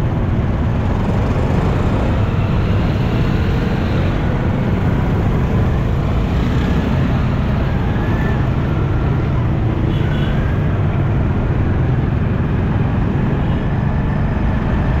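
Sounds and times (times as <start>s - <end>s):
surrounding traffic noise: 0.0s - 15.0s.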